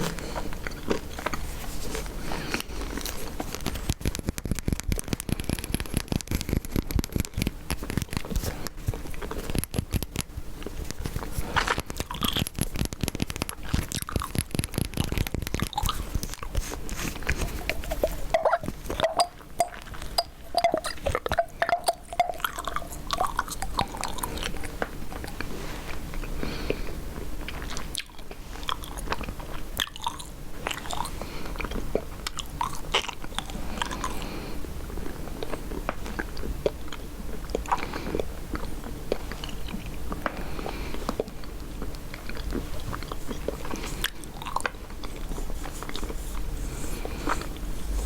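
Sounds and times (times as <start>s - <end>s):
gum chewing: 0.0s - 48.0s.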